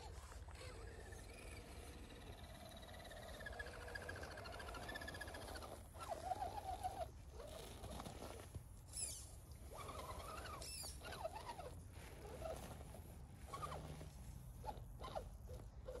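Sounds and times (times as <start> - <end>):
electric motor and gears whining: 0.0 - 7.5, 8.9 - 16.0.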